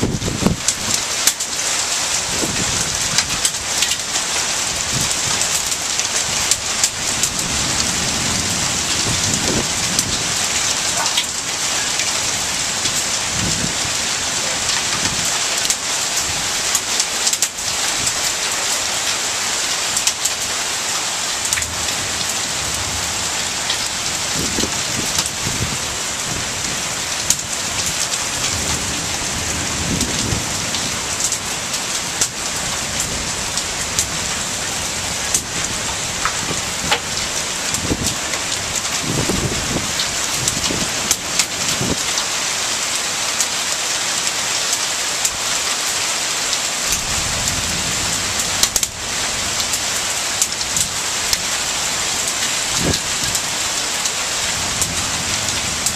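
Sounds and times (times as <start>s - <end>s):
heavy rain hissing: 0.0s - 55.9s
raindrops ticking on a surface: 0.0s - 55.9s.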